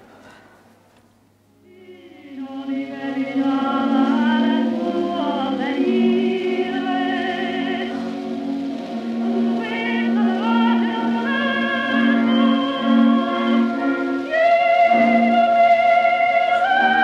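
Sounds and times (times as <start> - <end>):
operatic singing with vibrato: 1.5 - 17.0.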